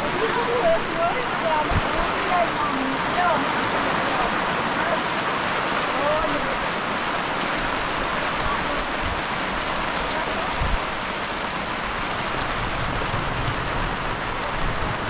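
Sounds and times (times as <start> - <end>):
heavy rain on plastic tarp: 0.0 - 15.0.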